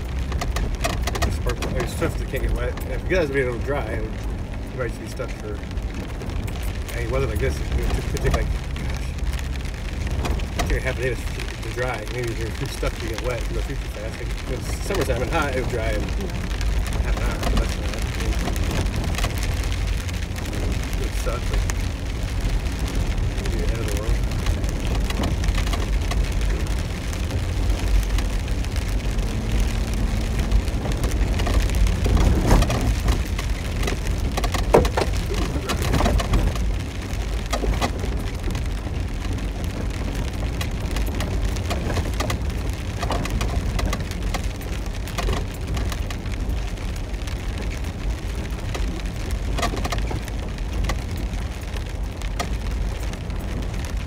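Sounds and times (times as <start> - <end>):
knocks and clatter: 0.0 - 3.2, 5.6 - 54.0
rain on vehicle roof: 0.0 - 54.0
vehicle rumble on dirt road: 0.0 - 54.0.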